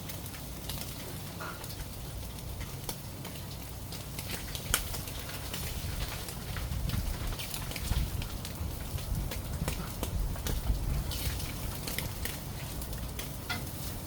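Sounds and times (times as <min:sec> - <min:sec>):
eel sizzling on a grill: 0:00.0 - 0:14.0
sharp crackling pops: 0:00.0 - 0:14.0.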